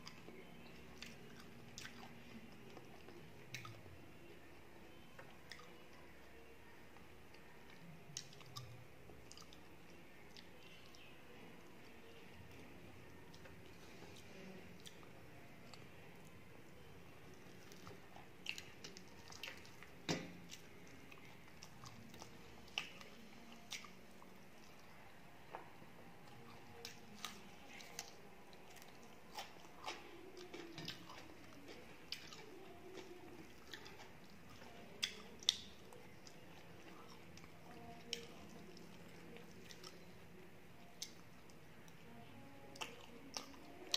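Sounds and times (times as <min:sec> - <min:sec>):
chewing: 0:00.0 - 0:06.4, 0:07.3 - 0:11.1, 0:11.7 - 0:25.6, 0:26.2 - 0:43.9.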